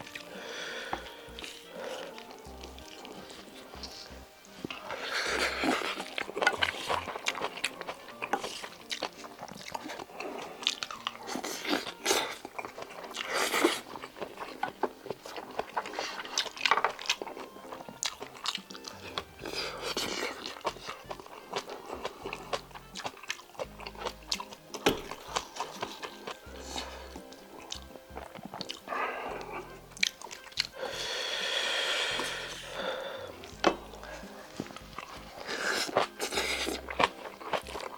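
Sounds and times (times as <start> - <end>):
chewing and mouth sounds: 0.0 - 37.9.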